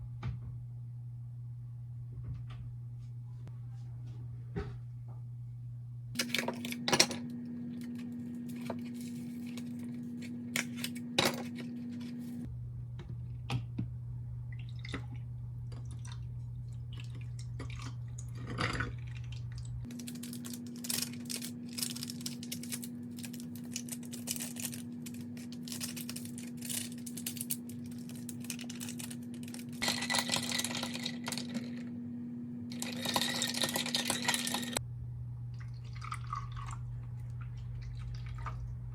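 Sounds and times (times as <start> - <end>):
low appliance hum: 0.0 - 38.9.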